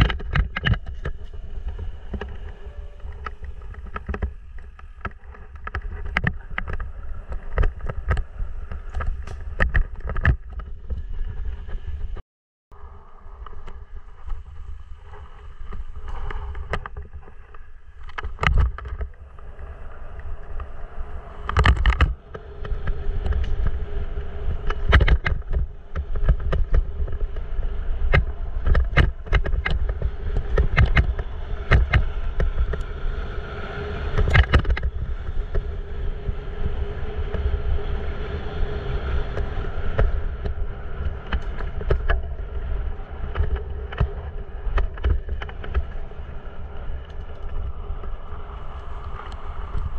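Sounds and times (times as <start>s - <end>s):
bike rattling over bumps: 0.0s - 12.2s, 13.5s - 49.9s
bike tyres rumbling over gravel: 0.0s - 12.2s, 12.8s - 49.9s
wind on microphone: 0.0s - 49.9s.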